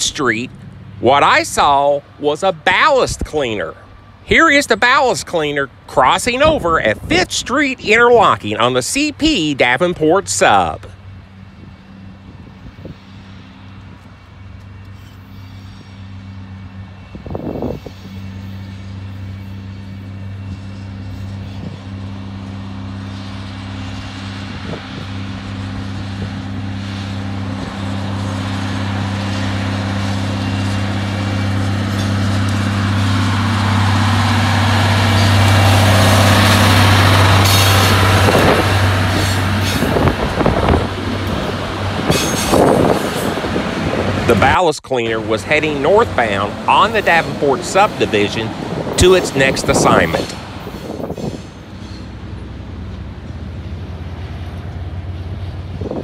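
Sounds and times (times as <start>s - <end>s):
diesel engines droning: 0.0s - 56.0s
wheels rattling on rails: 0.0s - 56.0s.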